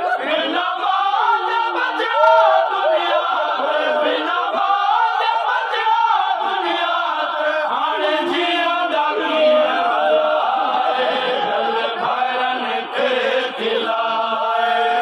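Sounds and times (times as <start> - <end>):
men chanting lament: 0.0 - 15.0.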